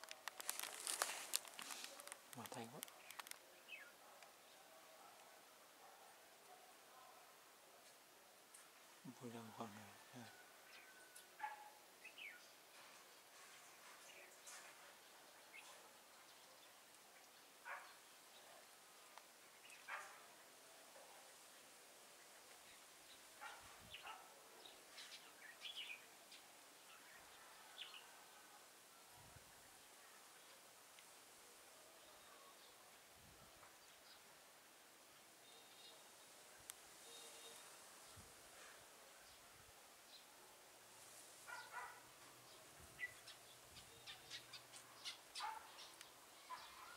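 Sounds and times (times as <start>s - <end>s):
faint bird chirping: 0.3s - 7.9s, 8.6s - 34.4s, 35.1s - 46.9s.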